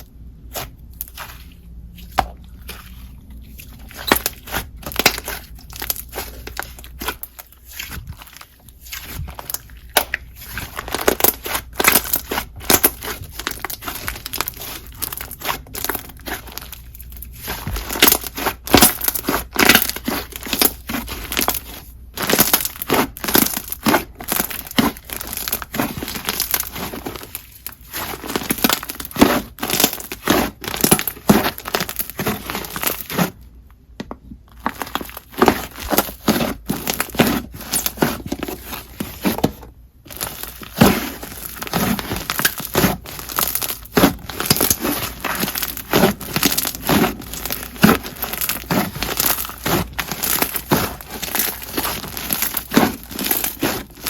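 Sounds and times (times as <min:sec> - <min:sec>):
slime squishing and popping: 0:00.0 - 0:33.9, 0:34.5 - 0:54.0.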